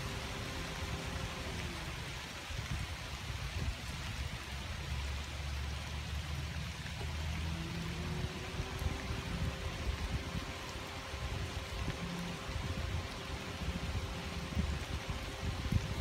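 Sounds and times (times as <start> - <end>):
faint steady hum: 0.0 - 4.2, 4.9 - 16.0
rain falling on trees: 0.0 - 16.0.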